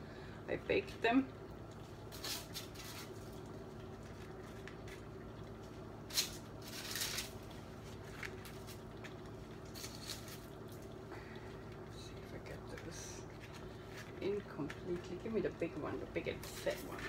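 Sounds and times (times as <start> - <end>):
steady low hum: 0.0 - 17.0
soft rustling of food handling: 1.7 - 17.0.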